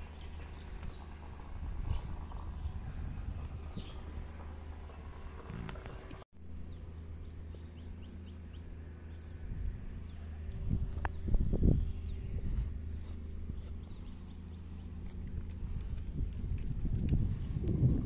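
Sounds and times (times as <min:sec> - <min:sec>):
low outdoor rumble: 0:00.0 - 0:18.0
small birds chirping: 0:00.0 - 0:18.0.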